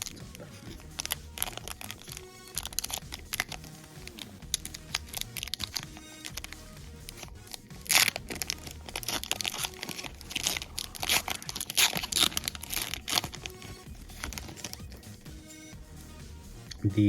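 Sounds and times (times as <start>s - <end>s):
plastic wrapper tearing and crinkling: 0.0s - 15.2s.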